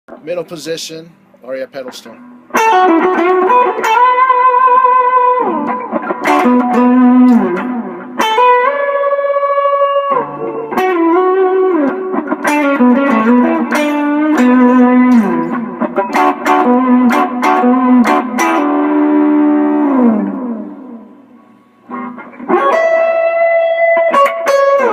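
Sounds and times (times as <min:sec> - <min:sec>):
overdriven electric guitar notes: 0:01.9 - 0:24.9.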